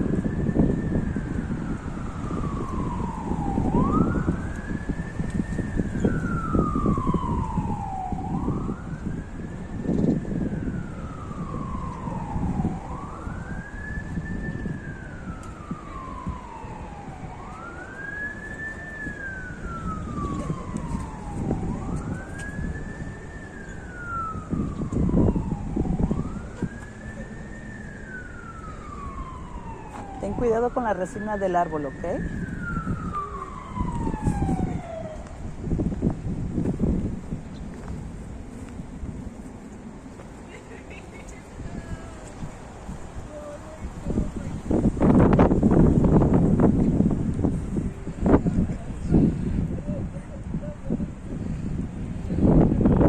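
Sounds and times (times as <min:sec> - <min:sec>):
siren wailing: 0:00.0 - 0:53.0
wind rumbling on microphone: 0:00.0 - 0:53.0.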